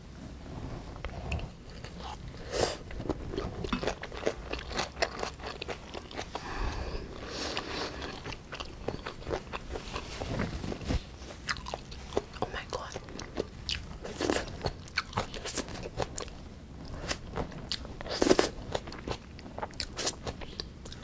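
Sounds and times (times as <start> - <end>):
chewing food crunches: 1.3 - 6.4, 7.5 - 10.1, 11.4 - 21.0.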